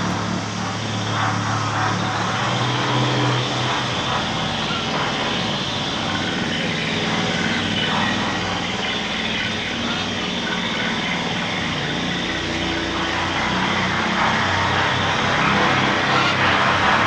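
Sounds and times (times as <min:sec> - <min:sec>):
harsh machine-like drone: 0:00.0 - 0:17.0.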